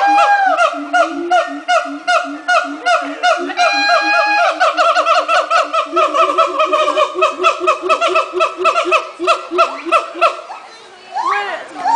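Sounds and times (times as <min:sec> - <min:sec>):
siamang whooping calls: 0:00.0 - 0:11.9.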